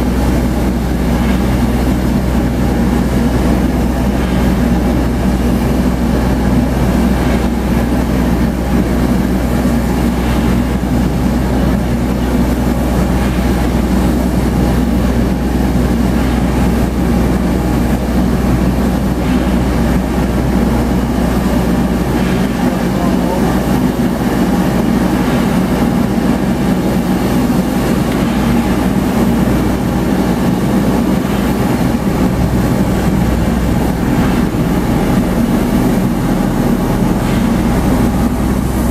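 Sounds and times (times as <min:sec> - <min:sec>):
tiltrotor aircraft engine drone: 0:00.0 - 0:38.9.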